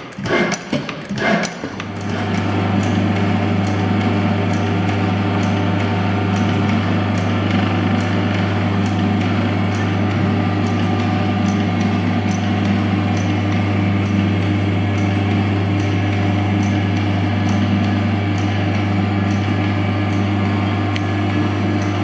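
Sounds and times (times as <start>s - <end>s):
electric motor hum: 1.8s - 22.0s.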